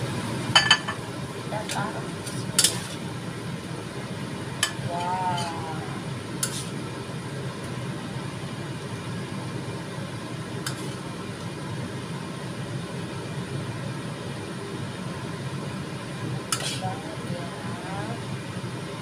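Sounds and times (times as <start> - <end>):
low kitchen rumble: 0.0 - 19.0.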